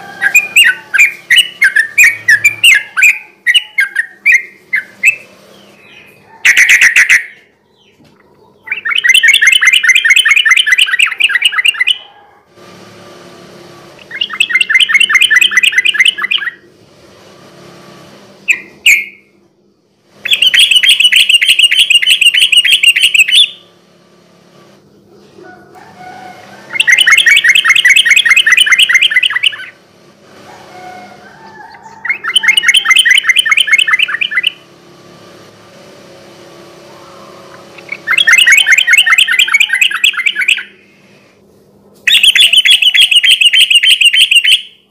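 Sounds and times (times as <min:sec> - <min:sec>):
bird singing rolling phrases: 0:00.0 - 0:12.4, 0:13.9 - 0:16.8, 0:18.3 - 0:41.2, 0:42.0 - 0:44.9.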